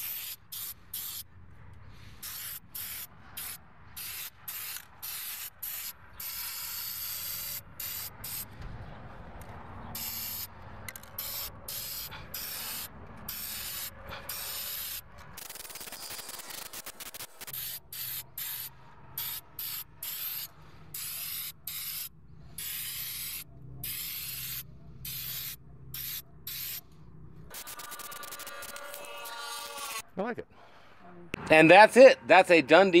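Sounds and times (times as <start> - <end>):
spray paint can hissing: 0.0 - 1.3, 2.2 - 8.5, 9.9 - 26.8, 27.5 - 30.0.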